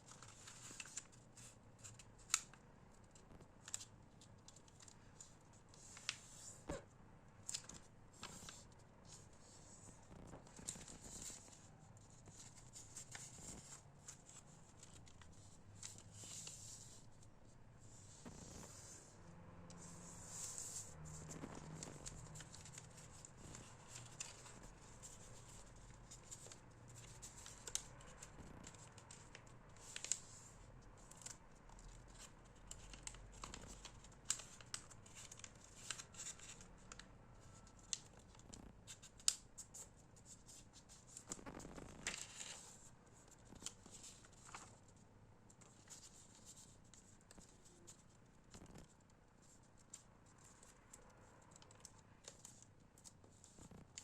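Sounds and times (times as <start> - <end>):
paper clicks and rustles: 0.0 - 17.3, 19.7 - 54.0.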